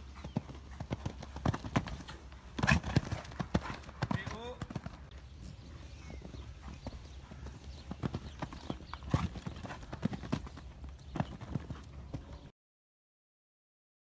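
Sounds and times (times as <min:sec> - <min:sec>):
horse hoofbeats on sand: 0:00.0 - 0:12.5.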